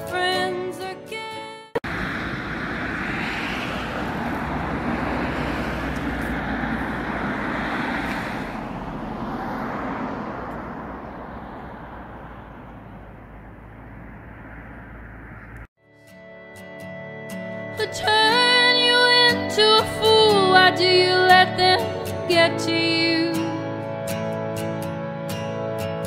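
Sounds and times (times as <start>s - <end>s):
road traffic passing: 1.8s - 15.7s, 17.4s - 26.0s.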